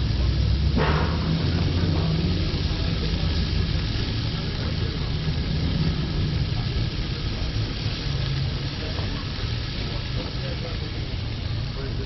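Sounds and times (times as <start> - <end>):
low rumble: 0.0 - 12.0
meat sizzling on grill: 0.0 - 12.0.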